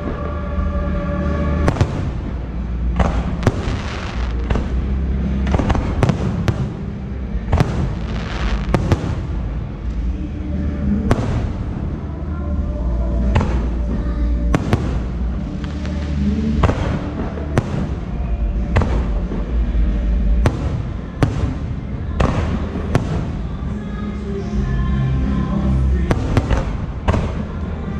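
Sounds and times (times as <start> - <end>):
low rumble: 0.0 - 27.9.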